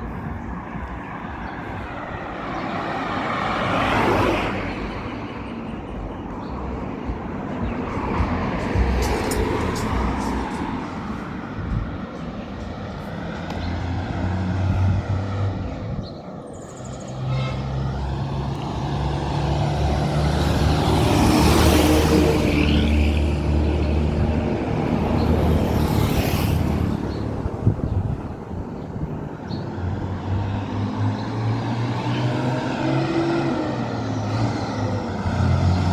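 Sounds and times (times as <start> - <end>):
steady engine hum: 0.0 - 35.9
vehicles passing close by: 0.0 - 35.9.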